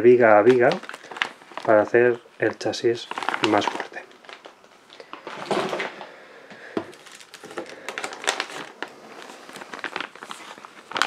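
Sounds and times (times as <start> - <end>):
plastic bags crinkling: 0.2 - 11.0.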